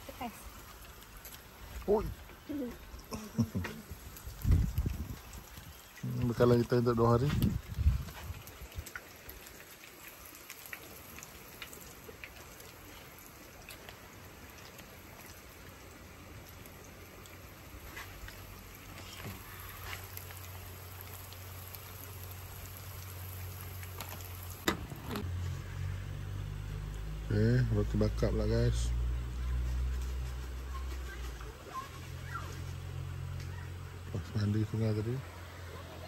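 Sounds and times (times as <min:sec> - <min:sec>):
food sizzling in hot oil: 0:00.0 - 0:30.7.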